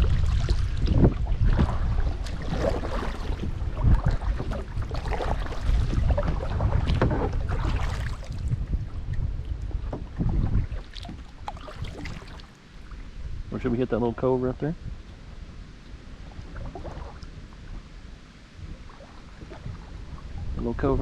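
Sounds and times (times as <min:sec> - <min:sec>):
water splashing and sloshing: 0:00.0 - 0:13.7, 0:14.9 - 0:21.0
wind buffeting microphone: 0:00.0 - 0:21.0.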